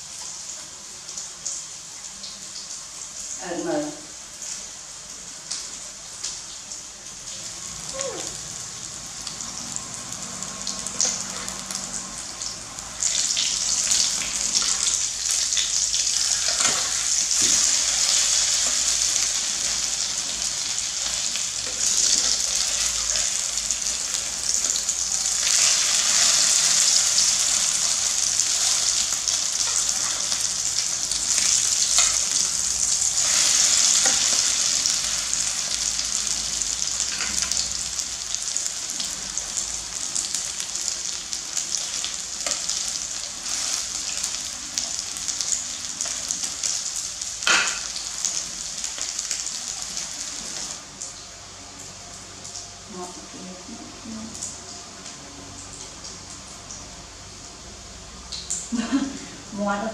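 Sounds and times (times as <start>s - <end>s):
patties sizzling in oil: 0.0s - 59.9s.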